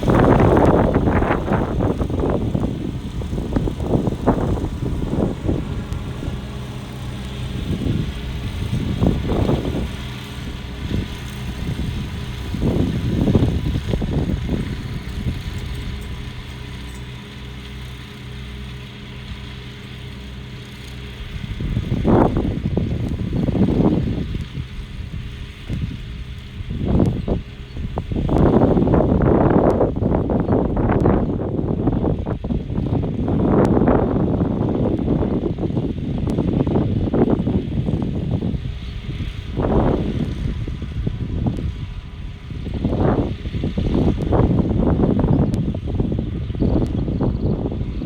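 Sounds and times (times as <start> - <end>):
low rumbling noise: 0.0 - 48.0
tractor diesel engine running: 0.0 - 48.0.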